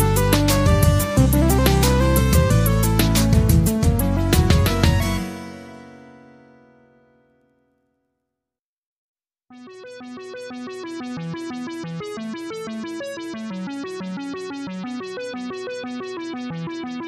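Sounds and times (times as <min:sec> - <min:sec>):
fast keyboard melody: 0:00.0 - 0:07.3, 0:09.5 - 0:17.0.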